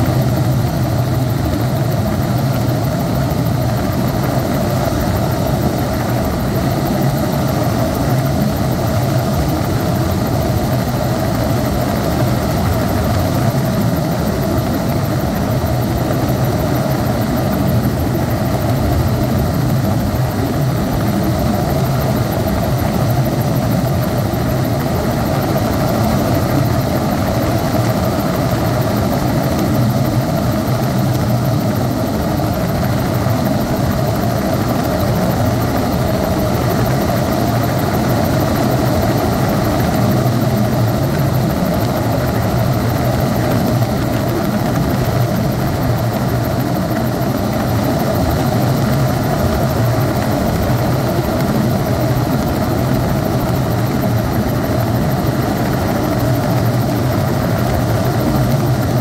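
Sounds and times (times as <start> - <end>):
helicopter rotor and engine drone: 0.0 - 59.0.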